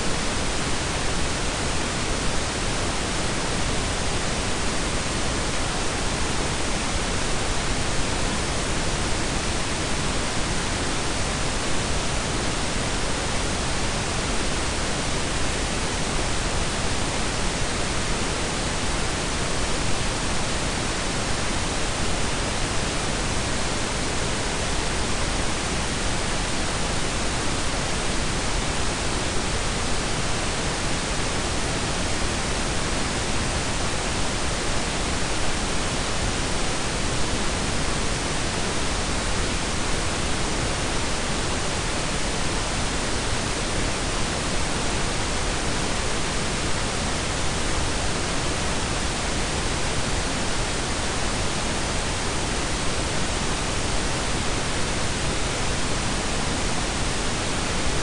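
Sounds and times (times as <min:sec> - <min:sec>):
steady rumbling noise hiss: 0:00.0 - 0:58.0.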